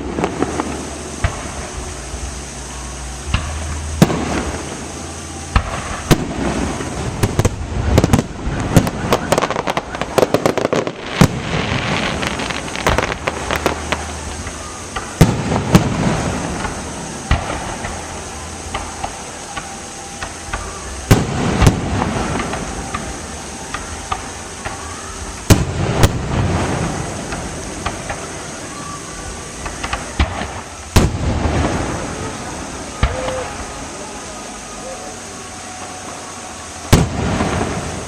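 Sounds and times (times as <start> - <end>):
fireworks booming: 0.0 - 38.0
fireworks crackling: 0.0 - 38.0.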